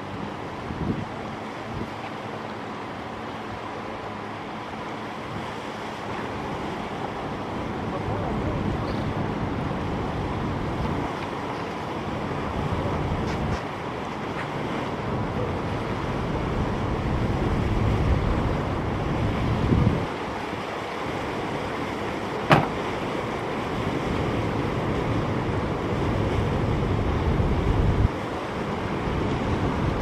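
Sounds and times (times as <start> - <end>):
wind buffeting microphone: 0.0 - 2.0, 6.3 - 30.0
water rushing from boat wake: 0.0 - 30.0.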